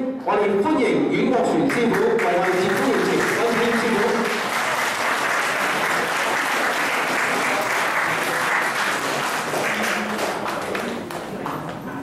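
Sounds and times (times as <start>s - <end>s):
audience applauding: 1.7s - 11.7s.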